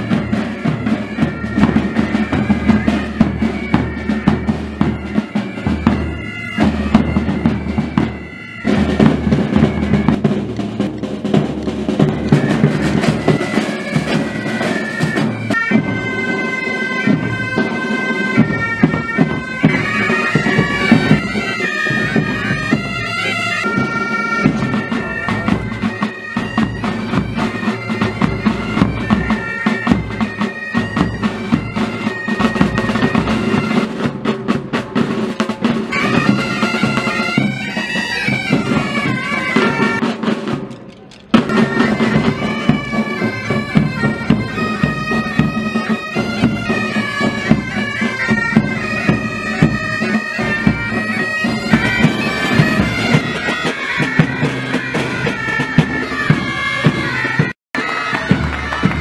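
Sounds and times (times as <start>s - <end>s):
bagpipes playing melody: 0.0s - 40.4s, 41.4s - 59.0s
snare and bass drums: 0.0s - 59.0s.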